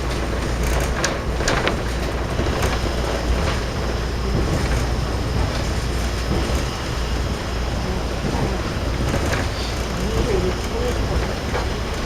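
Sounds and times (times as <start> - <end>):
train rumbling: 0.0 - 12.0
wheels clicking over rail joints: 0.0 - 12.0.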